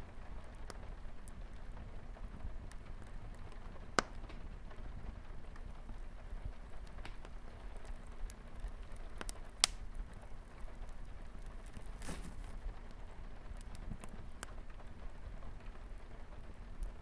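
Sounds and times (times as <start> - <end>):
fireplace crackling and popping: 0.0 - 17.0
light rain on a window: 0.0 - 17.0.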